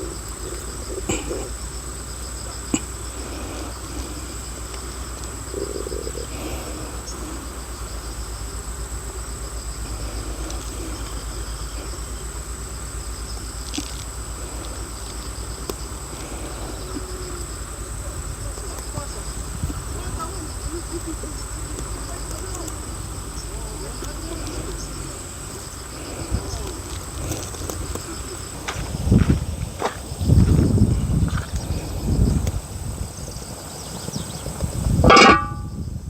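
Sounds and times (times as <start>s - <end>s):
insects whining and trilling: 0.0s - 36.0s.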